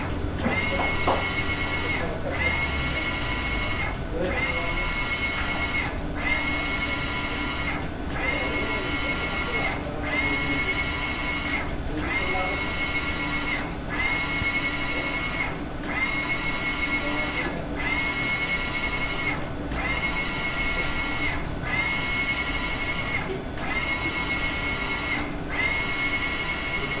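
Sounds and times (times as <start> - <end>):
printer carriage motor whine: 0.0 - 27.0.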